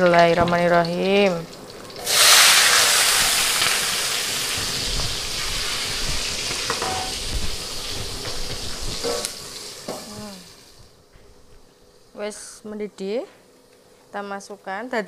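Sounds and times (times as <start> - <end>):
food sizzling in hot oil: 0.0 - 12.6.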